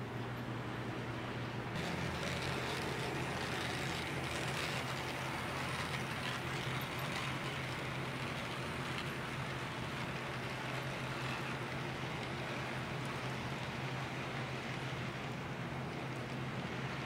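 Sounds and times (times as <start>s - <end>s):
model train hum: 0.0s - 17.0s
wheels rolling on rails: 0.0s - 17.0s.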